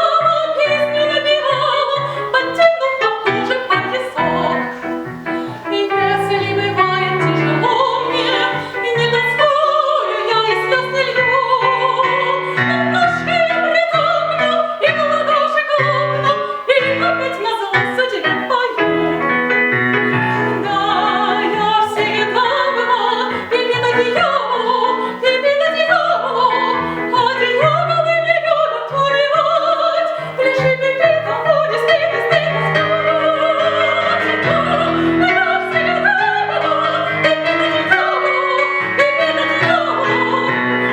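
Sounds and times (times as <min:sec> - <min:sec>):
piano accompaniment: 0:00.0 - 0:40.9
woman singing operatically: 0:00.0 - 0:40.9.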